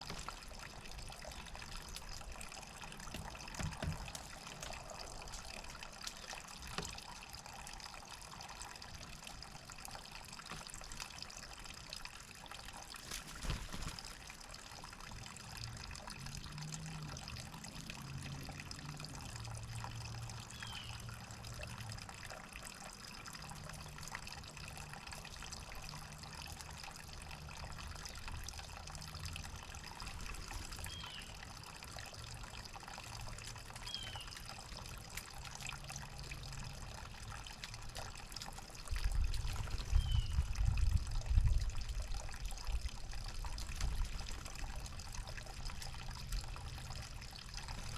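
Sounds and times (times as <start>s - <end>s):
water trickling: 0.0s - 47.9s.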